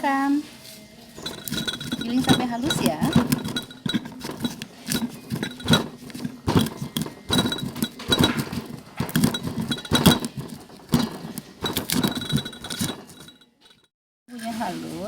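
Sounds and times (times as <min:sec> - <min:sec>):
pestle knocking and grinding: 0:01.2 - 0:13.8.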